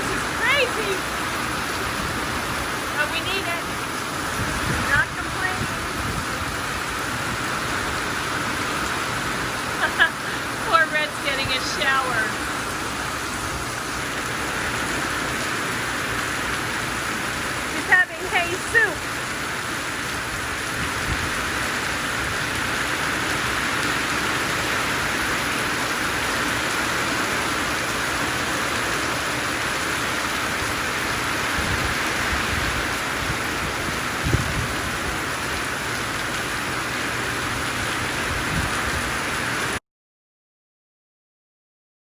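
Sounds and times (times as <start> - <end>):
heavy rain pouring: 0.0 - 39.8.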